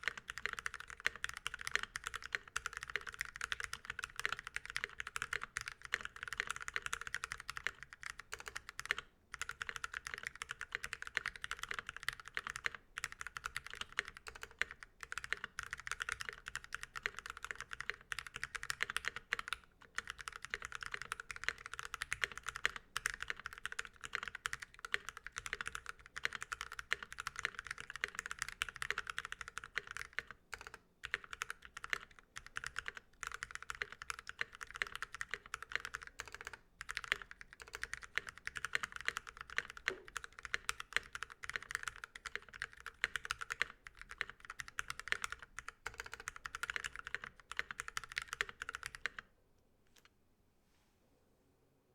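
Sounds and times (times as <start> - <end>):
fast typing on mechanical keyboard: 0.0 - 49.3.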